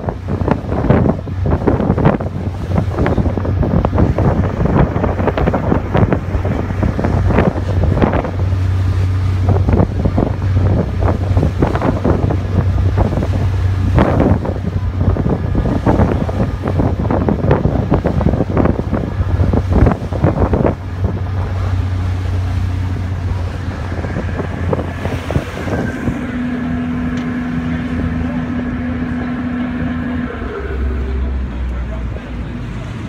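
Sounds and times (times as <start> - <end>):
ferry engines droning: 0.0 - 33.0
wind buffeting microphone: 0.0 - 33.0.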